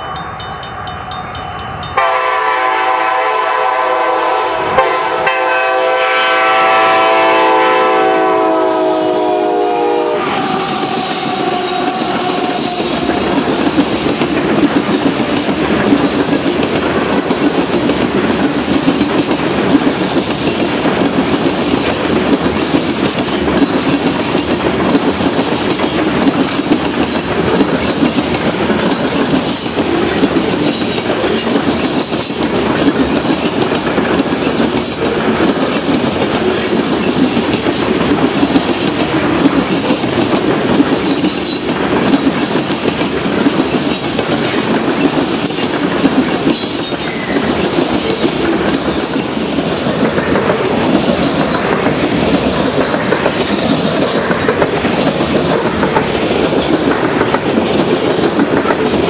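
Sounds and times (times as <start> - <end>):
train wheels rumbling on rail: 0.0 - 59.0
wheels clacking over rail joints: 10.3 - 59.0.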